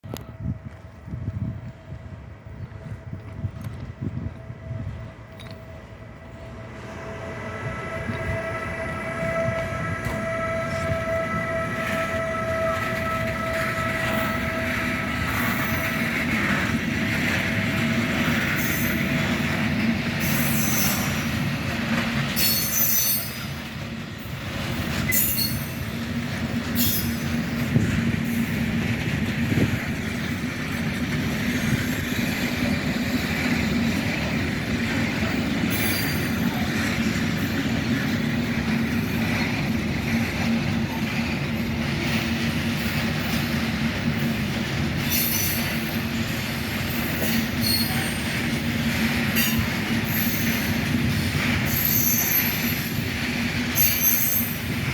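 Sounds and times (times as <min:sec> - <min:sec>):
freight train rumbling past: 0:00.0 - 0:54.9.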